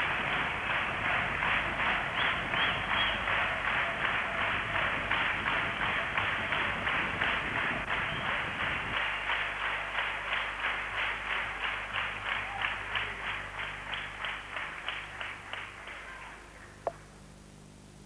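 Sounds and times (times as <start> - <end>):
crowd clapping in unison: 0.0 - 16.9.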